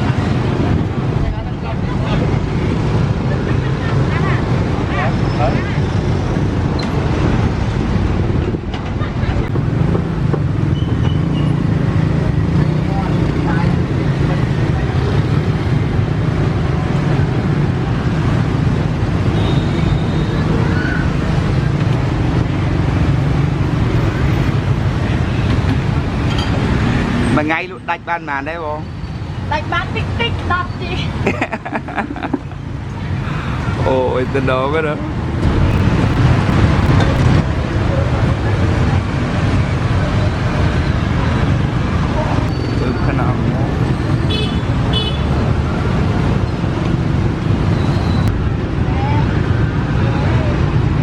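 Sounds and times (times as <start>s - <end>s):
street traffic drone: 0.0s - 51.0s.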